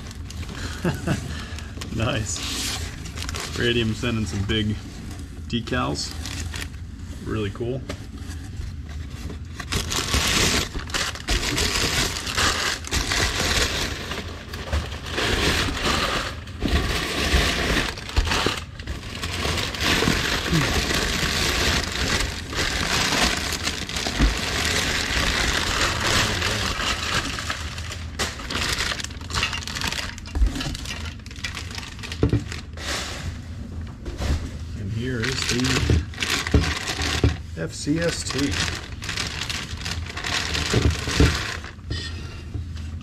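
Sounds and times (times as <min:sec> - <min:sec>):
packing paper rustling: 0:00.0 - 0:33.4, 0:34.7 - 0:41.9.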